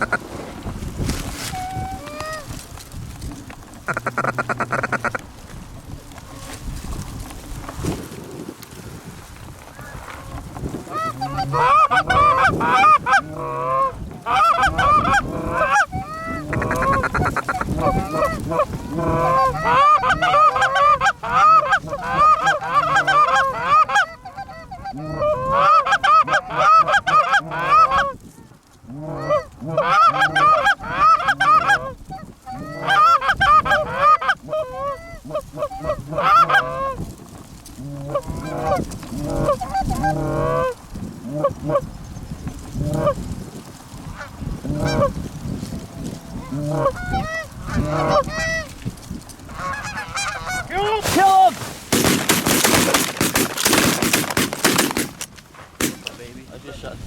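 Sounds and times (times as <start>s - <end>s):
geese honking and clucking: 0.0s - 0.4s, 1.4s - 2.6s, 3.8s - 5.4s, 6.1s - 6.8s, 9.7s - 42.0s, 42.7s - 43.3s, 44.0s - 56.2s.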